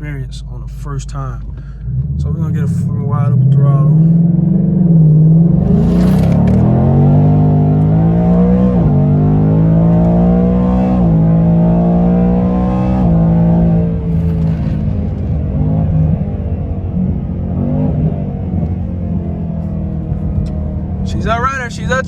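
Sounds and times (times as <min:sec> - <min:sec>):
car engine accelerating with upshifts: 0:00.0 - 0:22.0.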